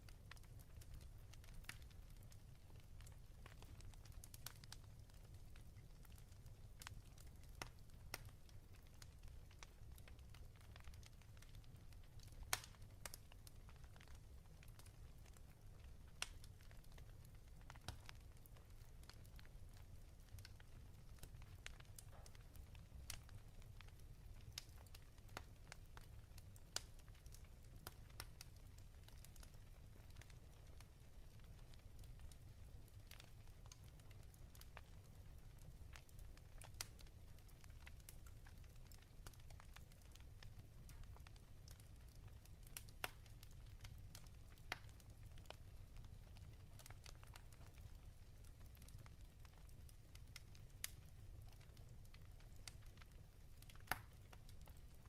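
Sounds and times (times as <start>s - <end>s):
fireplace crackling: 0.0s - 55.0s.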